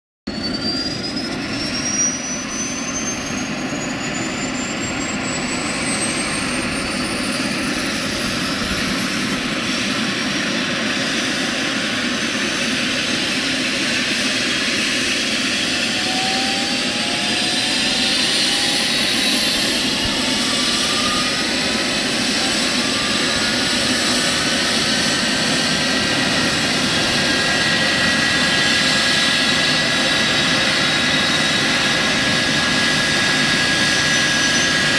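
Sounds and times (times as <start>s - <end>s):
helicopter rotors running: 0.3s - 34.9s
helicopter turbine whine: 0.3s - 34.9s.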